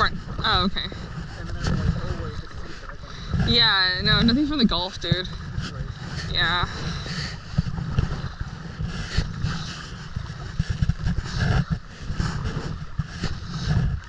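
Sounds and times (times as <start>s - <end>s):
water splashing around kayak: 0.0s - 14.0s
wind rumbling on microphone: 0.0s - 14.0s.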